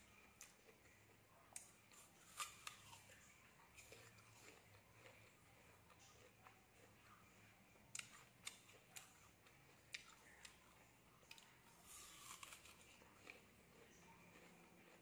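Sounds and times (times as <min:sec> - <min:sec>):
person chewing apple: 0:00.0 - 0:15.0.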